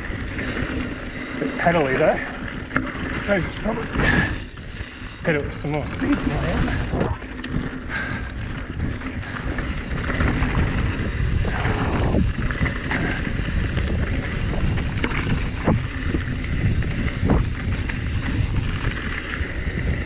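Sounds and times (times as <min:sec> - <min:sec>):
bike tyre rumble on dirt: 0:00.0 - 0:20.0
wind buffeting microphone: 0:00.0 - 0:20.0.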